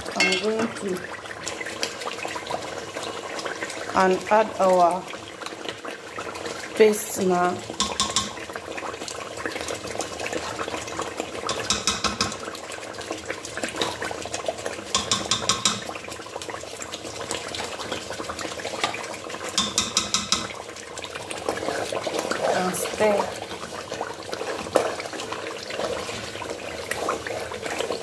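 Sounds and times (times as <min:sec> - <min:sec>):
sauce bubbling and sizzling: 0:00.0 - 0:28.0.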